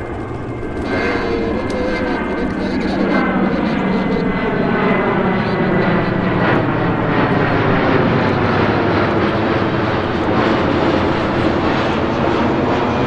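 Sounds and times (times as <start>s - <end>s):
jet engines passing overhead: 0.0s - 13.0s.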